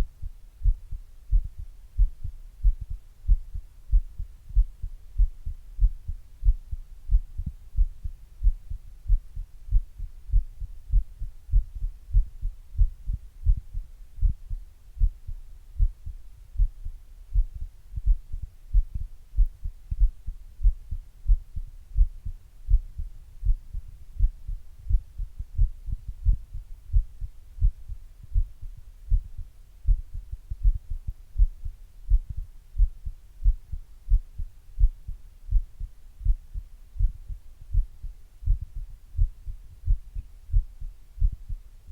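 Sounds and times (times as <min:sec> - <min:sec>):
heartbeat thumps: 0:00.0 - 0:41.9.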